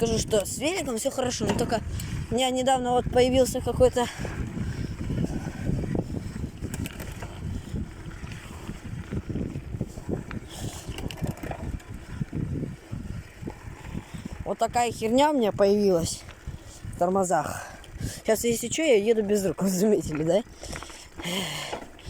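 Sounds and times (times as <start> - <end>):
bicycle rolling noise: 0.0 - 22.0
wind buffeting microphone: 0.0 - 22.0.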